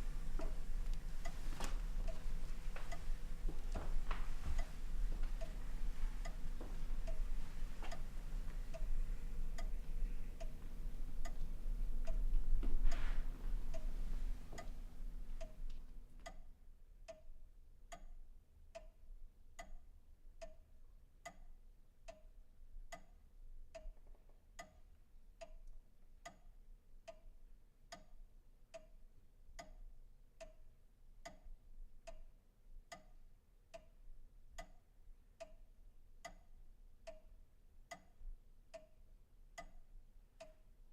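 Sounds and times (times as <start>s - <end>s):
clock ticking: 0.3s - 13.1s, 14.5s - 17.3s, 17.9s - 19.0s, 19.6s - 20.6s, 21.2s - 24.0s, 24.6s - 27.3s, 27.9s - 34.0s, 34.6s - 37.3s, 37.9s - 40.7s.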